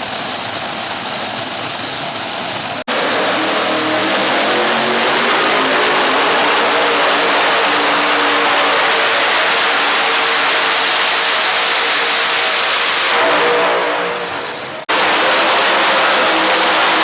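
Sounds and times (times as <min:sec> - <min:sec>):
engine running flat out: 0:00.0 - 0:17.0.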